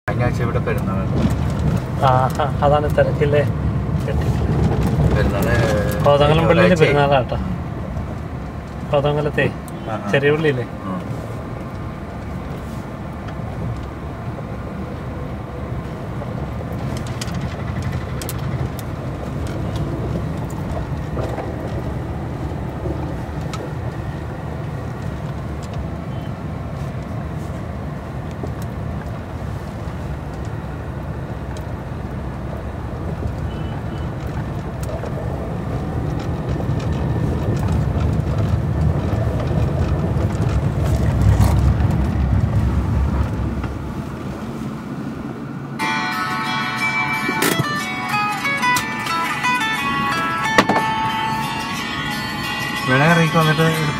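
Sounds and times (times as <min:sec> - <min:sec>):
car cabin rumble: 0:00.1 - 0:53.9.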